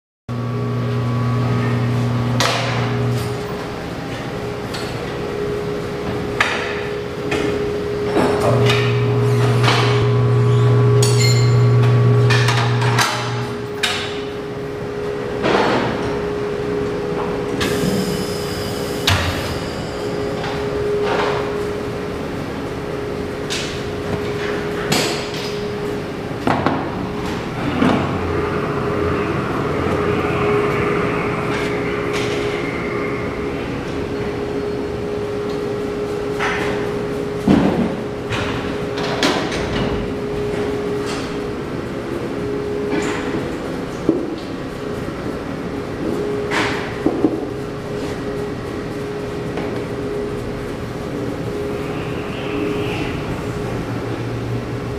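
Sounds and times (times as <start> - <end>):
steady workshop hum: 0.3 - 54.9.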